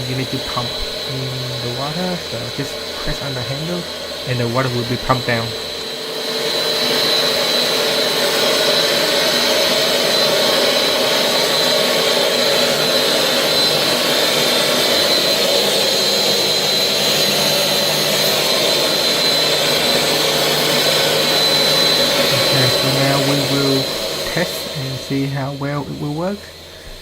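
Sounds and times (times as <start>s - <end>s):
carpet cleaner motor whining: 0.0s - 27.0s.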